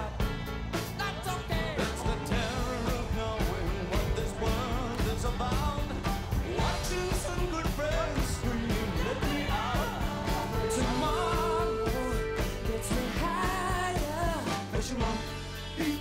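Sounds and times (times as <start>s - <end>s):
drums with steady beat: 0.0s - 16.0s
person singing: 0.0s - 16.0s.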